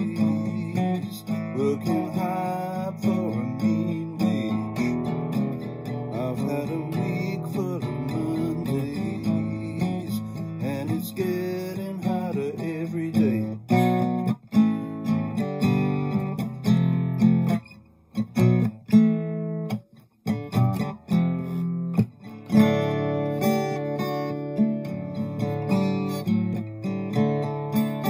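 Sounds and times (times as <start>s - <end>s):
acoustic guitar strummed chords: 0.0s - 28.0s.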